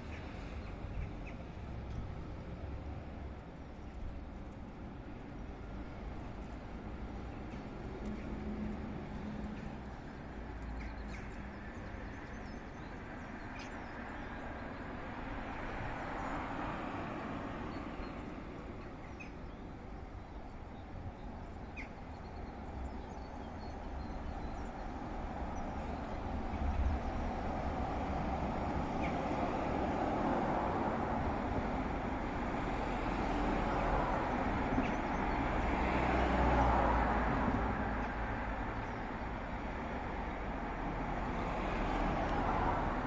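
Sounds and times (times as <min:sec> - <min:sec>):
street traffic noise: 0:00.0 - 0:43.0.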